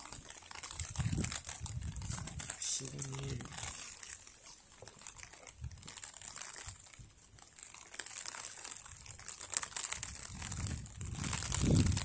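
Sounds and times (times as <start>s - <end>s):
crinkly rustling: 0.0s - 12.0s.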